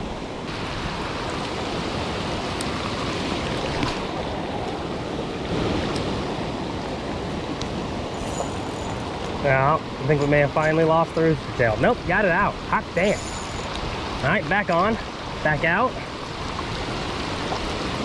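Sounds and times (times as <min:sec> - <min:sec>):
water rushing below a dam: 0:00.0 - 0:18.0.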